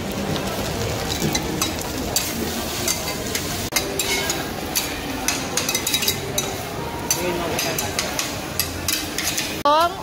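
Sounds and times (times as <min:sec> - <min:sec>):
rice sizzling on griddle: 0:00.0 - 0:09.6
metal spatulas scraping and clinking: 0:01.6 - 0:09.6.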